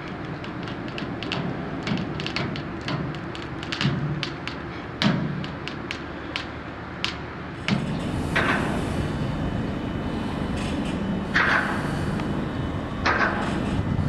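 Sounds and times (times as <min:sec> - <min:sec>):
ship engine rumbling: 0:00.0 - 0:14.0.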